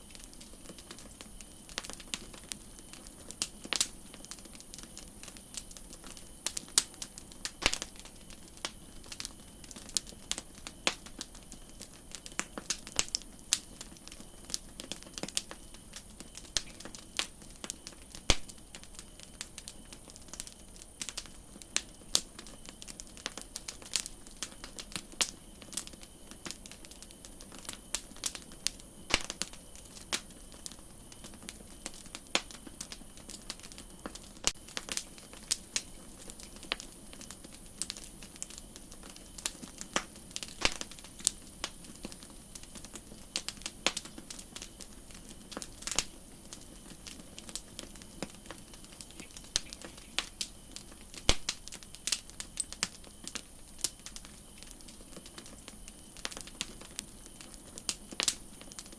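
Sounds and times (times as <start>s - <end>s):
campfire crackling: 0.0s - 58.9s.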